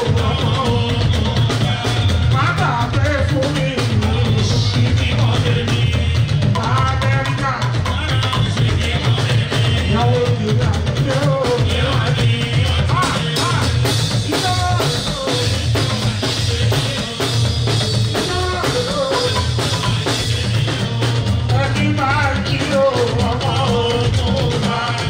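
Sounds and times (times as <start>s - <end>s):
bass guitar: 0.0s - 25.0s
drums and percussion: 0.0s - 25.0s
person singing: 0.0s - 25.0s.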